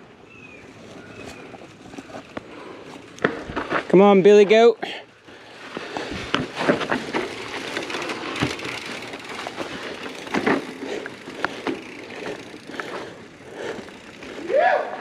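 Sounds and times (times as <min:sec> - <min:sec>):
bike tyres rolling over dirt: 0:00.0 - 0:15.0
bike clicks and rattles: 0:00.6 - 0:15.0.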